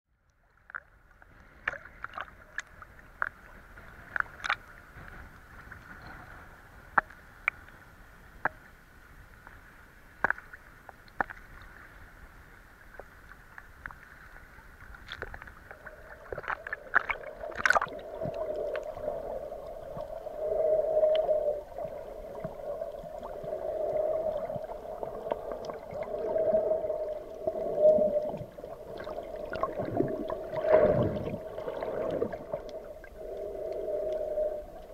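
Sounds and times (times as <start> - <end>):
underwater gurgling and bubbles: 0.2 - 34.9
water lapping and splashing: 0.4 - 34.9.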